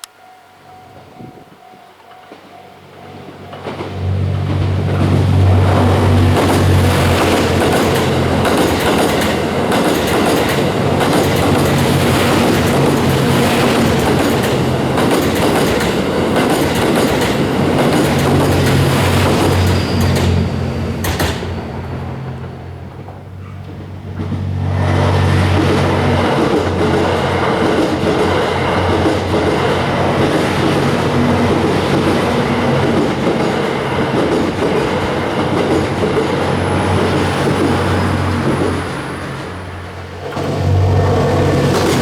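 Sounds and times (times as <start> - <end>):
train engine hum: 0.0 - 42.0
wheels clattering over rail joints: 3.2 - 42.0.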